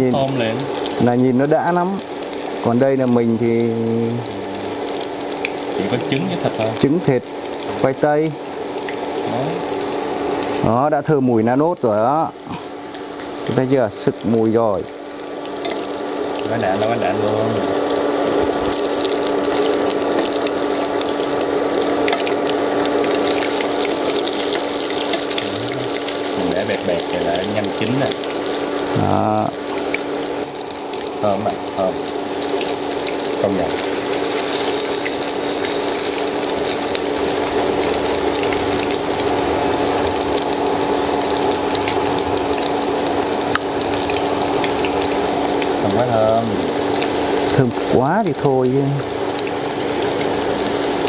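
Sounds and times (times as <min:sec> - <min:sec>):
faint steady hum: 0:00.0 - 0:51.0
patties sizzling in oil: 0:00.0 - 0:51.0.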